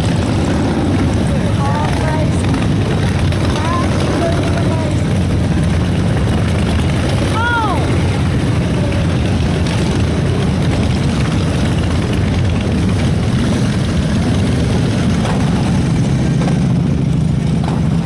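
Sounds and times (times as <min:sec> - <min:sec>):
many vehicle engines rumbling: 0:00.0 - 0:18.0.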